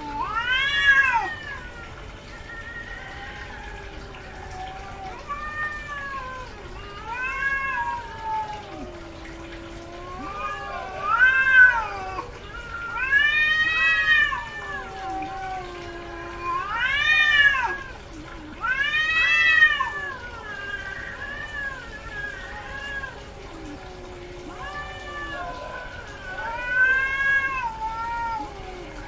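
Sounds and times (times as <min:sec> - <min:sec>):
cat yowling: 0:00.0 - 0:29.0.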